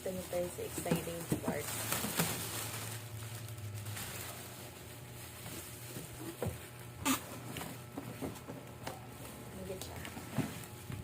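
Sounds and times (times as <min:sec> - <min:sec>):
handling noise unpacking: 0:00.0 - 0:11.0.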